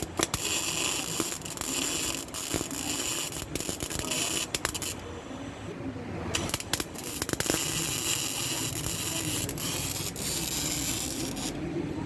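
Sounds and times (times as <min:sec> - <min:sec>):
welding arc crackling hiss: 0:00.0 - 0:05.0, 0:06.4 - 0:11.6.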